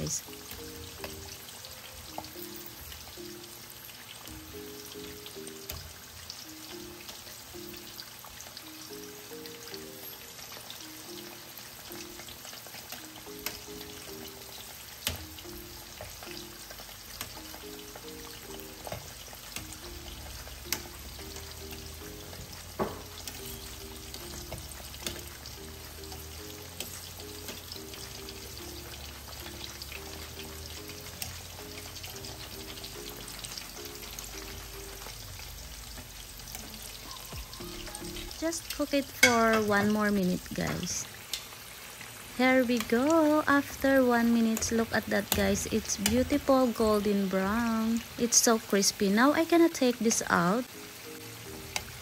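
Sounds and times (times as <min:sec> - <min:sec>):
oil crackling and popping: 0:00.0 - 0:52.0
quiet background music: 0:00.0 - 0:52.0
ribs deep-frying in oil: 0:00.0 - 0:52.0.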